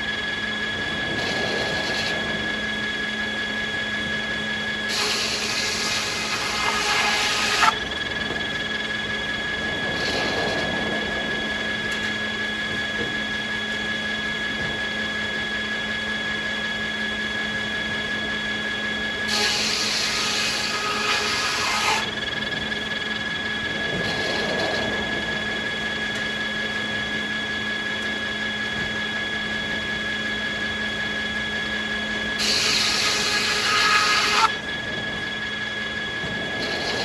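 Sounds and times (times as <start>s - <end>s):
sawmill machinery whining: 0.0s - 37.0s.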